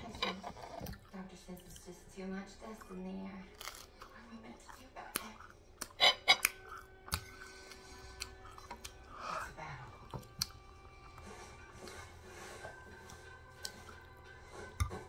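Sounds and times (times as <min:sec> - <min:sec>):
chewing and mouth sounds: 0:00.3 - 0:02.0, 0:02.6 - 0:09.2, 0:10.0 - 0:12.2, 0:12.8 - 0:15.0.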